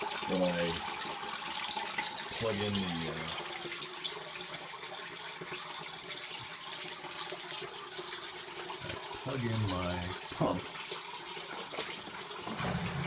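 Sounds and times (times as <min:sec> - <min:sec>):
water pouring into a pit: 0:00.0 - 0:13.0.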